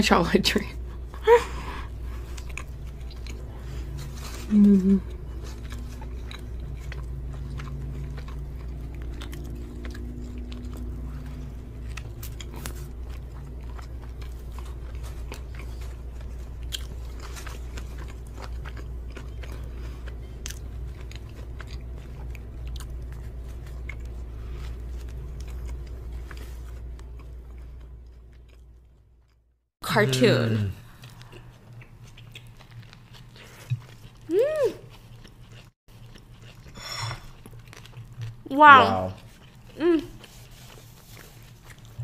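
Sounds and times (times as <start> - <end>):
steady low hum: 0.0 - 42.0
chewing and biting food: 0.8 - 29.4, 30.8 - 42.0.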